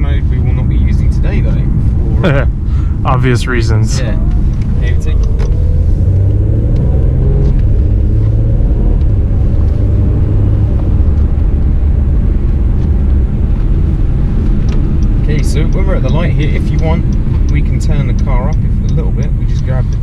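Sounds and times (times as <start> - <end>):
car engine low rumble: 0.0 - 20.0
road noise: 0.0 - 20.0.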